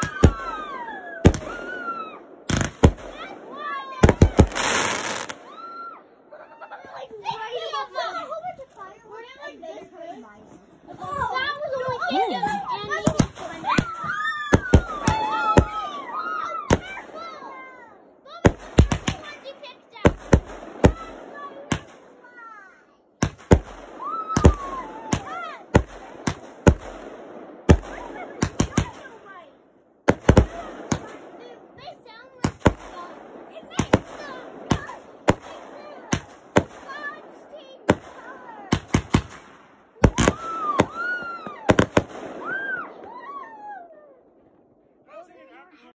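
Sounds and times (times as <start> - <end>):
fireworks launching and bursting: 0.0 - 6.2, 12.0 - 43.6.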